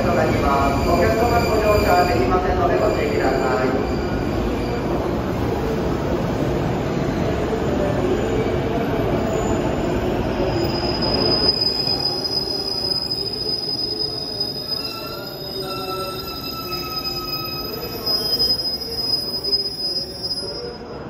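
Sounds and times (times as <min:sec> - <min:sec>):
high brake squeal: 0:00.0 - 0:05.1, 0:08.1 - 0:21.0.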